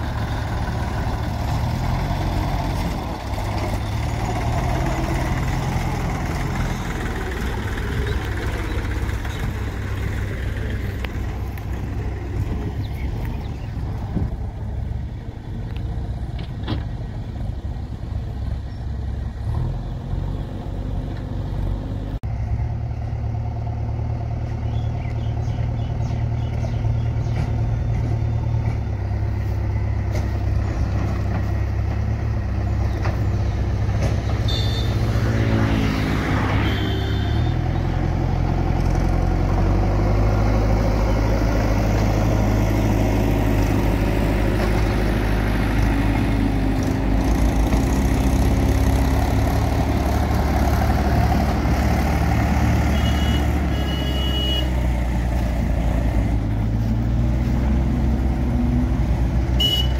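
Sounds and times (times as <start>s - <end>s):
backhoe loader diesel engine: 0.0s - 59.9s
tractor diesel engine running: 0.0s - 59.9s.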